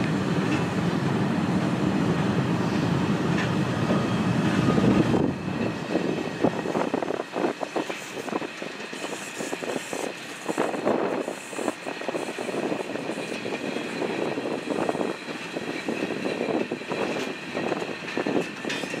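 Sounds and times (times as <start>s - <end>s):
clattering train wheels: 0.0s - 19.0s.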